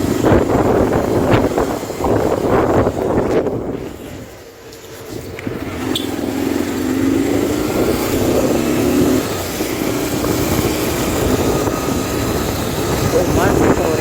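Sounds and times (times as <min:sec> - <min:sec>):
wind rushing over microphone: 0:00.0 - 0:04.4, 0:05.1 - 0:14.0
motorcycle engine: 0:00.0 - 0:14.0.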